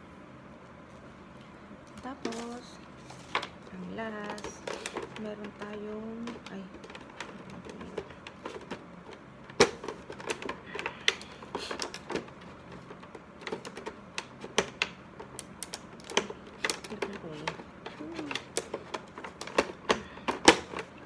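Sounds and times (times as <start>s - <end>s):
packaging clicks and taps: 3.3s - 21.0s.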